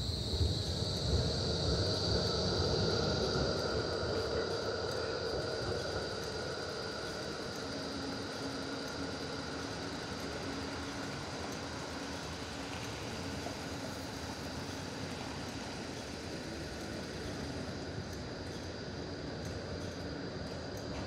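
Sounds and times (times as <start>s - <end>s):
faint steady whine: 0.0s - 21.0s.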